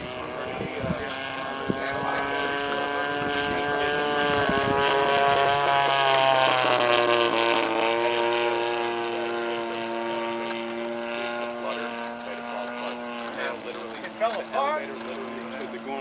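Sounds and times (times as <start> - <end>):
model plane engine flyby: 0.0 - 16.0.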